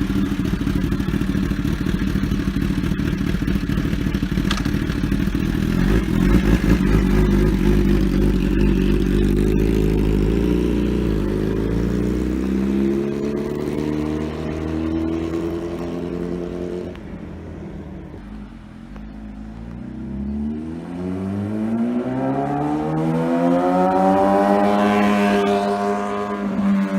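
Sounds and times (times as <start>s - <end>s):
motorcycle passing at high revs: 0.0s - 26.9s.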